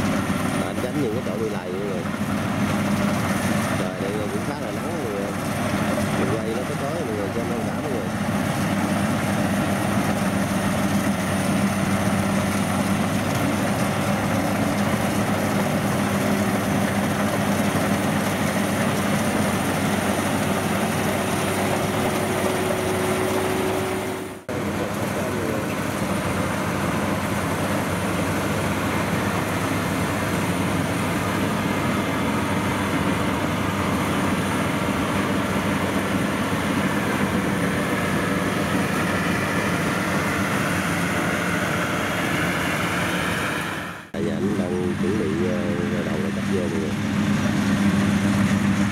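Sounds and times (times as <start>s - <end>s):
combine harvester machinery drone: 0.0s - 48.9s.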